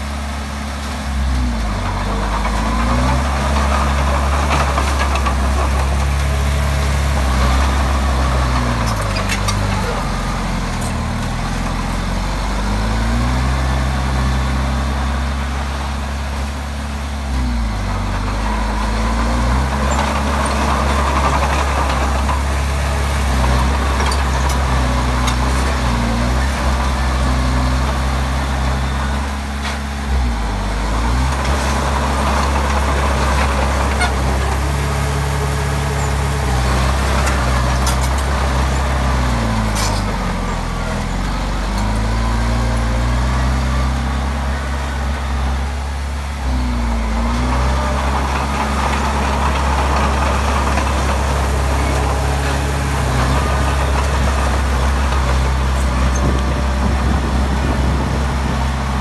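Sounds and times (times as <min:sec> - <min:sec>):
bulldozer diesel engine working: 0:00.0 - 0:59.0.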